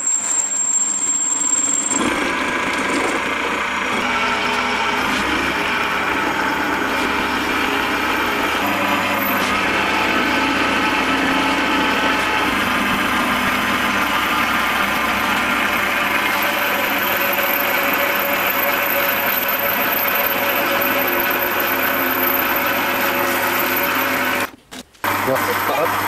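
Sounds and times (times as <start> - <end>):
metal lathe machining: 0.0 - 26.0.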